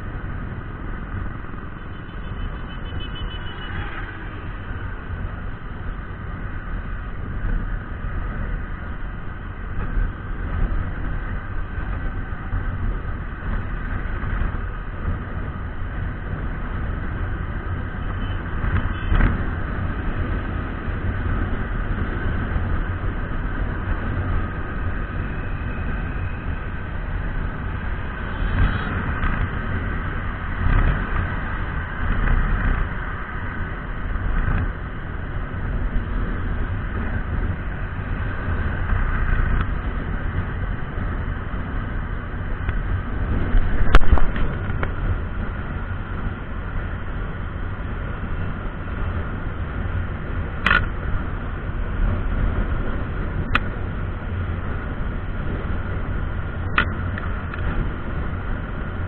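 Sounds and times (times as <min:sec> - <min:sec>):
wind on microphone: 0:03.9 - 0:59.0.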